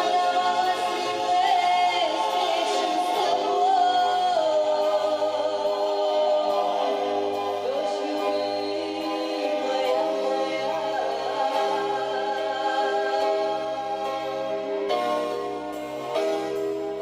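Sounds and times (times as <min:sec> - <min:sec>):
women singing: 0:00.0 - 0:14.3.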